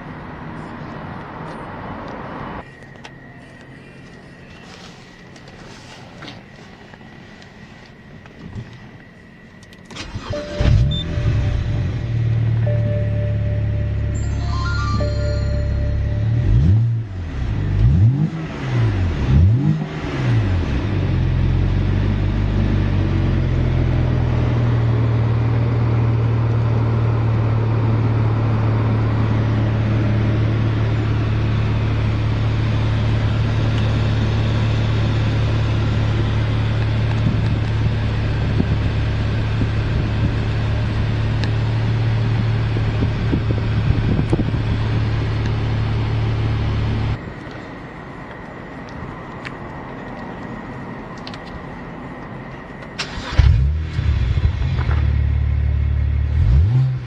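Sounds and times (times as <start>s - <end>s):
car engine revving and idling: 10.0s - 57.0s.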